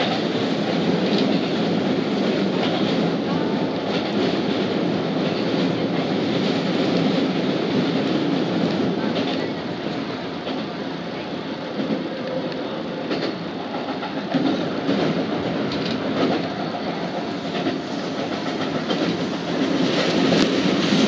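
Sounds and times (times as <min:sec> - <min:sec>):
clacks over rail joints: 0:00.0 - 0:10.8, 0:11.8 - 0:20.9
train wheels rumbling on rail: 0:00.0 - 0:21.0.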